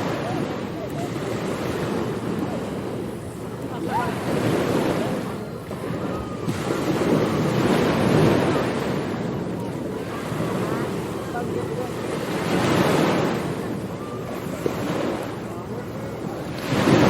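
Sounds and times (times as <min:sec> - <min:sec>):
waves breaking on a beach: 0:00.0 - 0:17.0
wind: 0:00.0 - 0:17.0.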